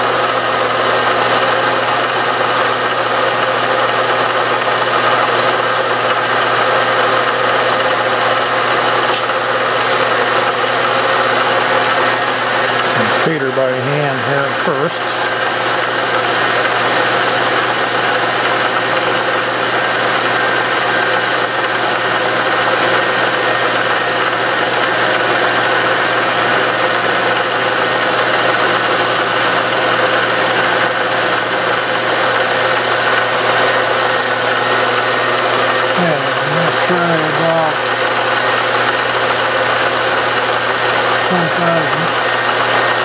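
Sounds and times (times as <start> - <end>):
milling machine cutting metal: 0.0 - 43.0.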